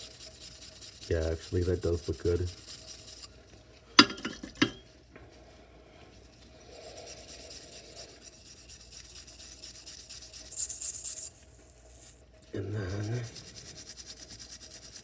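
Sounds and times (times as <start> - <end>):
scrubbing strokes on steel blade: 0.0 - 3.5, 6.2 - 15.0.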